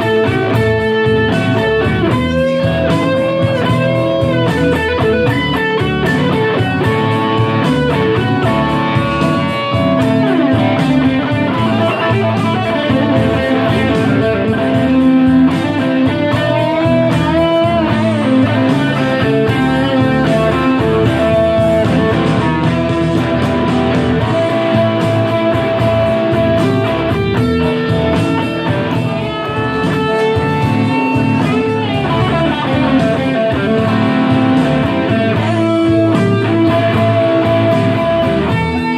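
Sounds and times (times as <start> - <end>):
electric guitar bending notes: 0.0 - 38.9
live band music: 0.0 - 38.9.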